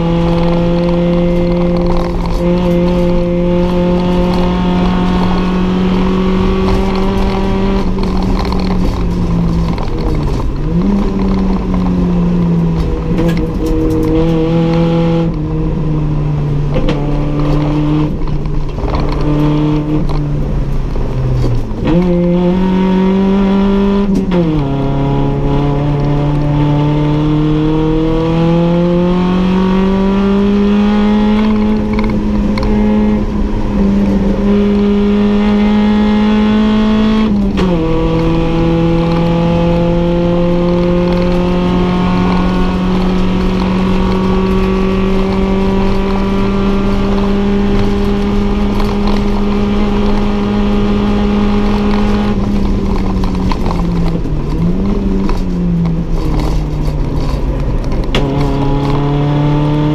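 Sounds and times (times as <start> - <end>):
racing car engine at high revs: 0.0 - 59.9.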